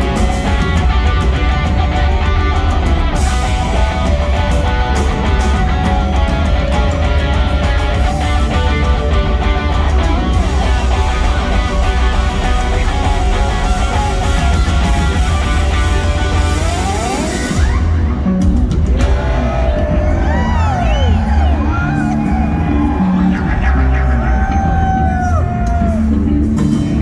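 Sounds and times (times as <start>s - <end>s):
bending guitar notes: 0.0s - 27.0s
rock band playing live: 0.0s - 27.0s.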